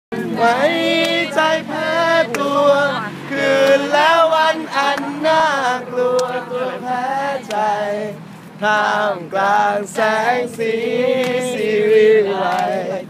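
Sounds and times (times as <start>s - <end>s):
men singing long notes: 0.1s - 13.0s.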